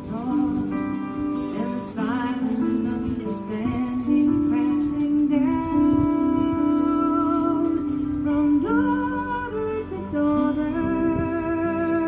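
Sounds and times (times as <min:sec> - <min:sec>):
slow music with long held notes: 0:00.0 - 0:12.0.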